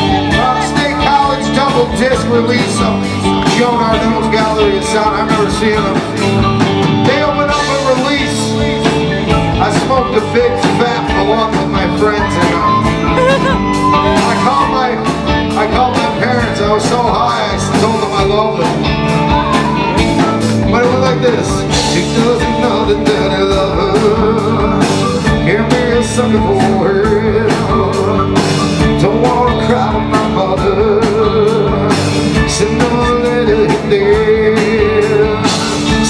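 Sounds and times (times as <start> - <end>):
drum kit beat: 0.0 - 36.0
electric guitars: 0.0 - 36.0
rock band playing: 0.0 - 36.0.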